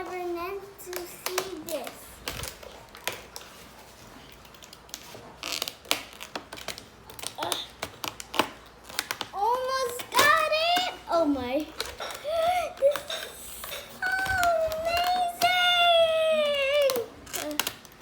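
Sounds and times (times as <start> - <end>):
packaging crinkle: 0.8 - 18.0
plastic and cardboard packaging clicks: 0.9 - 18.0.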